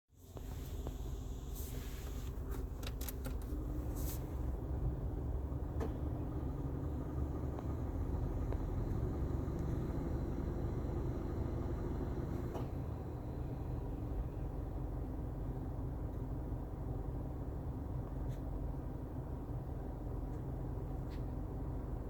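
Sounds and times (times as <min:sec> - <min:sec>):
car engine running: 0:00.1 - 0:22.0.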